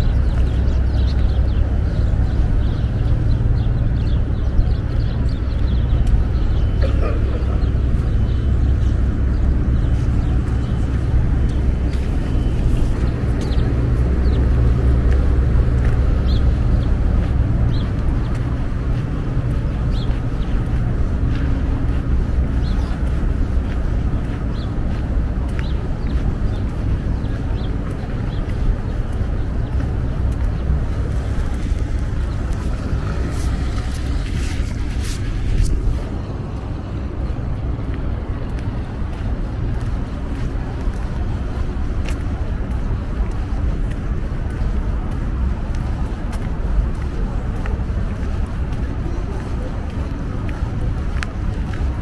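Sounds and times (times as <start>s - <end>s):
traffic rumble: 0.0s - 52.0s.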